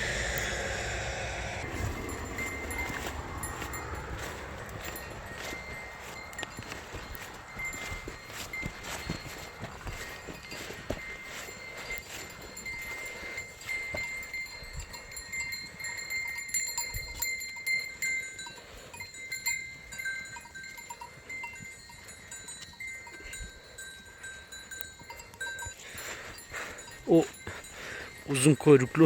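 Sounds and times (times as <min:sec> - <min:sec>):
sheep bells jingling: 0:01.6 - 0:29.0.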